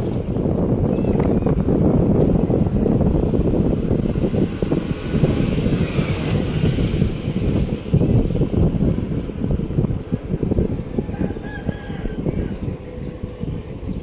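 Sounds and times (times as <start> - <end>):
vehicle road noise: 0.0 - 14.0
wind buffeting microphone: 0.0 - 14.0.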